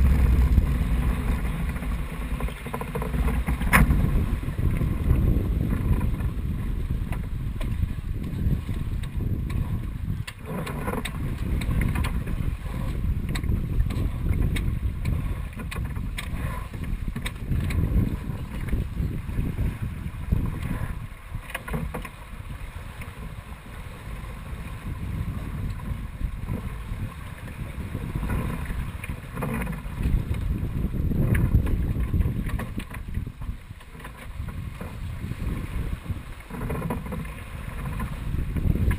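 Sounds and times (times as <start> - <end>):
water rushing along hull: 0.0 - 38.9
wind buffeting microphone: 0.0 - 38.9.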